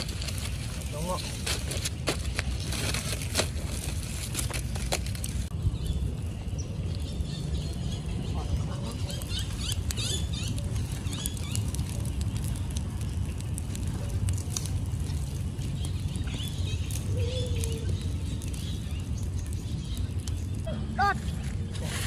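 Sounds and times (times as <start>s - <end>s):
fire crackling and popping: 0.0s - 22.0s
low rumble of fire: 0.0s - 22.0s.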